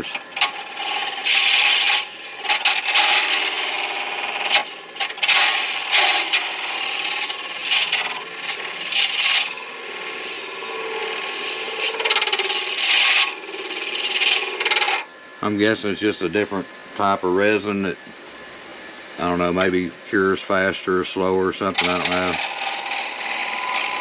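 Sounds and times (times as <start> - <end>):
lathe tool scraping spinning resin: 0.0 - 17.8, 19.2 - 24.0.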